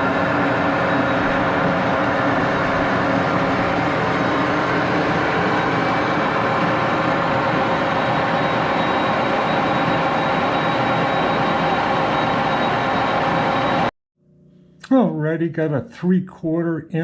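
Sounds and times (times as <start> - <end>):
shop machinery running: 0.0 - 13.9.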